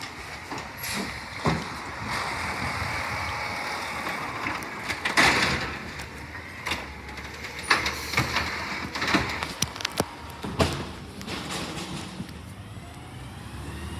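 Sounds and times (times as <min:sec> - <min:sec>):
loud clatter: 0:00.0 - 0:12.4
garbage truck hissing: 0:00.0 - 0:12.8.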